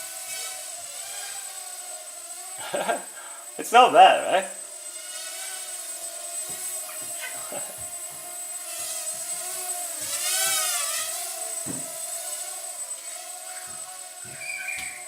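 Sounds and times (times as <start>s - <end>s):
small drone propellers buzzing: 0.0s - 15.0s.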